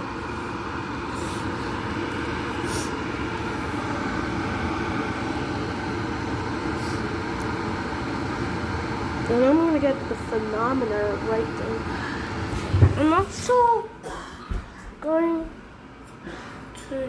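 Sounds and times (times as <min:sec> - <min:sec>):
kettle heating water: 0:00.0 - 0:15.2.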